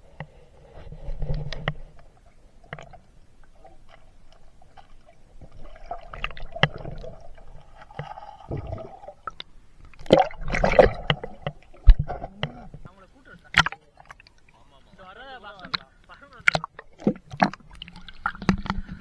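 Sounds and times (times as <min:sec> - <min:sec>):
muffled water gurgling and sloshing: 0:00.0 - 0:19.0.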